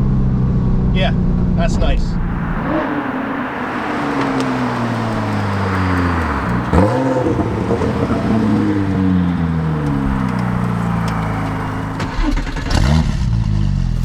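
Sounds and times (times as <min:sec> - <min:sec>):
car engine slowing down: 0:00.3 - 0:14.0.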